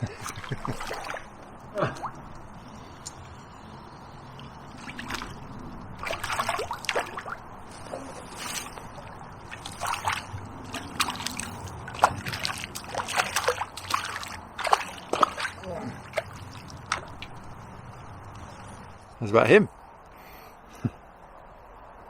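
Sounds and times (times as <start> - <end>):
fish splashing in water: 0.0 - 2.9, 3.5 - 19.1.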